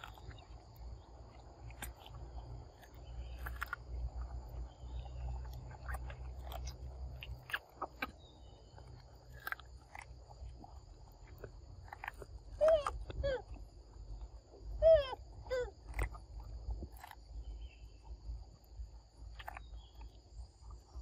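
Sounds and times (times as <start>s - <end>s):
monkey chewing fruit: 0.0s - 21.0s.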